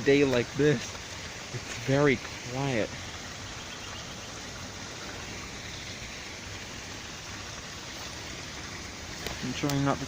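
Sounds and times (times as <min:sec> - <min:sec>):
running water spilling into creek: 0:00.0 - 0:10.0.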